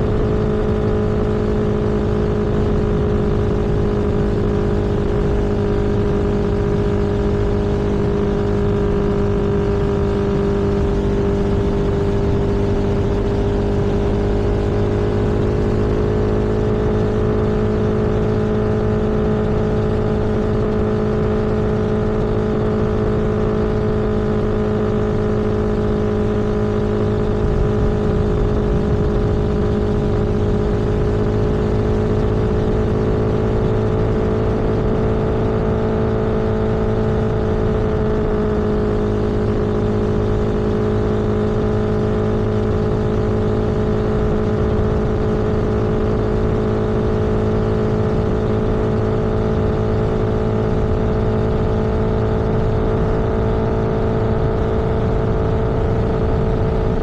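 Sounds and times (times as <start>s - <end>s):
road and wind noise: 0.0s - 57.0s
vehicle engine cruising: 0.0s - 57.0s.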